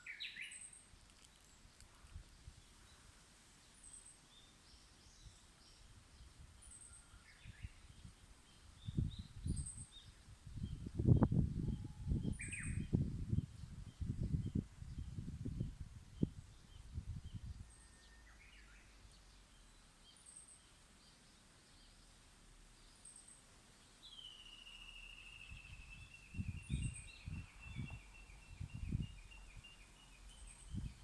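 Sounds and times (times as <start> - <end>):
bush warbler singing: 0.0 - 22.1, 22.8 - 31.0.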